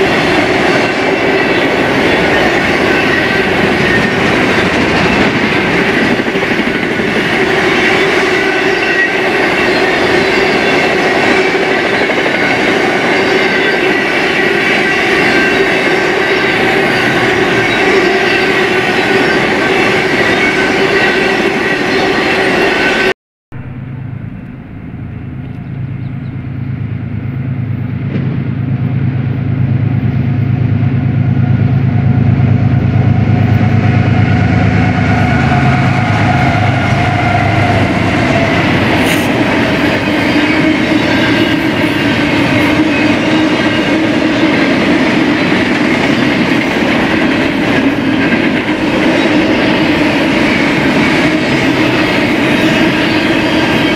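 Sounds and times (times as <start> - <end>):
freight cars rolling on rails: 0.0 - 23.1, 23.7 - 53.9
diesel locomotive engine drone: 0.0 - 53.9.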